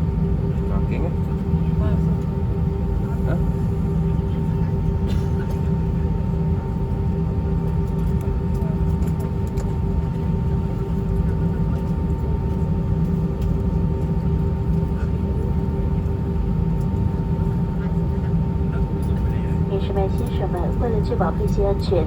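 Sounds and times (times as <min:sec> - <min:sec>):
aircraft cabin engine rumble: 0:00.0 - 0:22.0
steady engine hum tones: 0:00.0 - 0:22.0.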